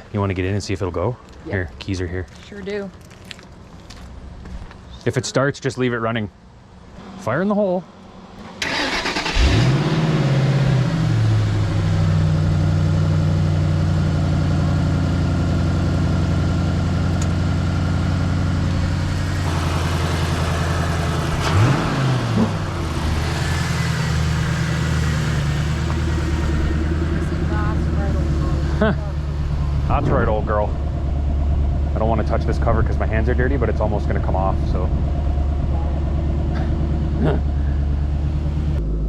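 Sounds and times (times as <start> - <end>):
car engine revving and idling: 6.8 - 39.0.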